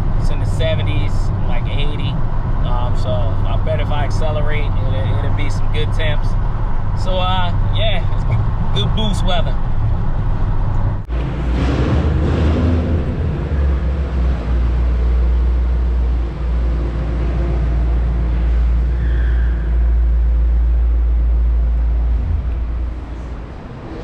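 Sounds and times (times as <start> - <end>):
car engine drone: 0.0 - 24.0
road noise inside car: 0.0 - 24.0.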